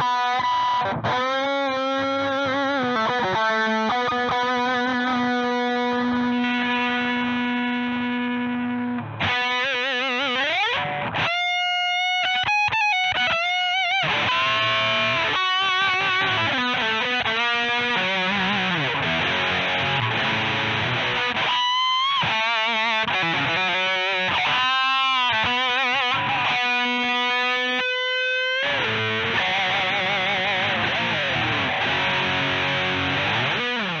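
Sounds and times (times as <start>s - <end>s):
distorted electric guitar: 0.0s - 34.0s.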